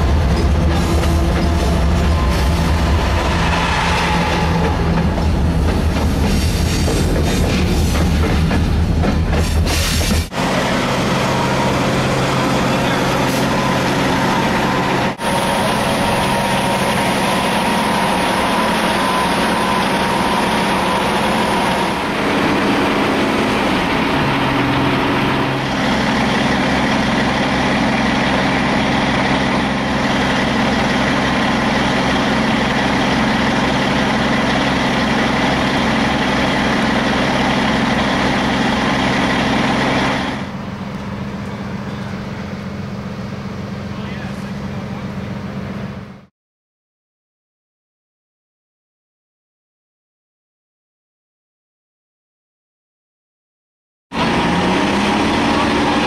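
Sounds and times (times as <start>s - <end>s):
heavy engine humming: 0.0s - 46.3s, 54.2s - 56.0s.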